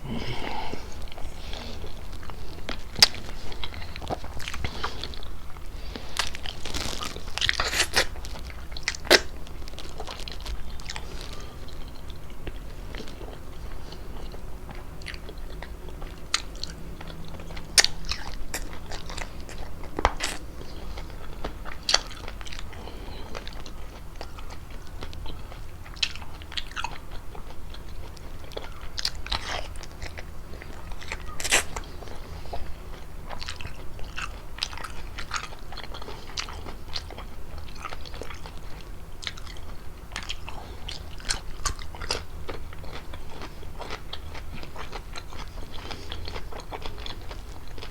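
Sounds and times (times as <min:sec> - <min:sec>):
wet chewing and biting: 0:00.3 - 0:47.9.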